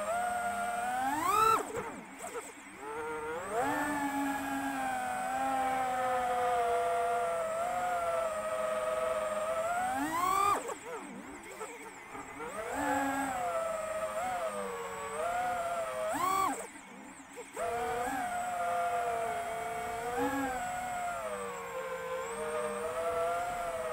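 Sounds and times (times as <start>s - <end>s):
drone motors whining: 0.0s - 23.9s.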